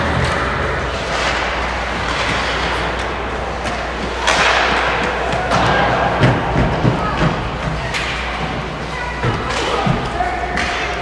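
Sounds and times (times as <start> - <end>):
ice rink background din: 0.0 - 11.0
skates scraping ice: 0.0 - 11.0.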